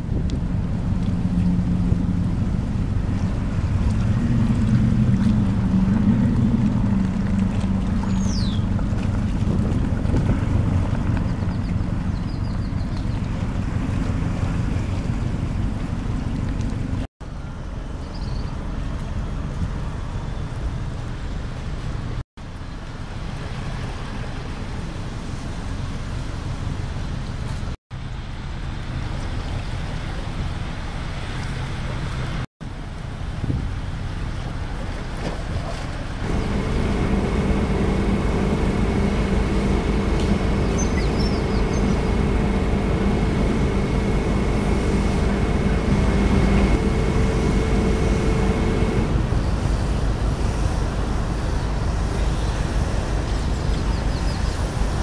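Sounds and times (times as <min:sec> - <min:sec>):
harbour water: 0:00.0 - 0:55.0
ship machinery low hum: 0:00.0 - 0:55.0
wind: 0:00.0 - 0:55.0.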